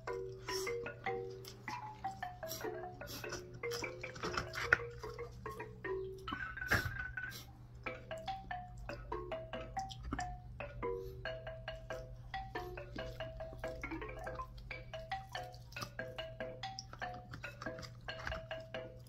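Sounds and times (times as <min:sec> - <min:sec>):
chiming mallet percussion tune: 0:00.0 - 0:07.2, 0:07.8 - 0:19.0.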